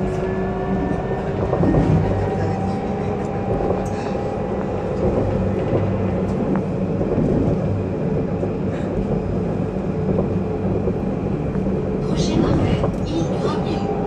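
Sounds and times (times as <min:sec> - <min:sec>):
tram wheels rumbling on rail: 0:00.0 - 0:14.0.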